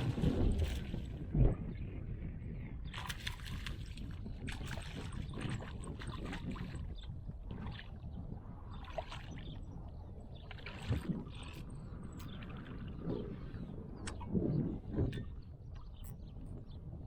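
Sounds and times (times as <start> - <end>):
water lapping and splashing: 0.0 - 1.6, 2.8 - 16.0
wind rumble on microphone: 0.0 - 17.0.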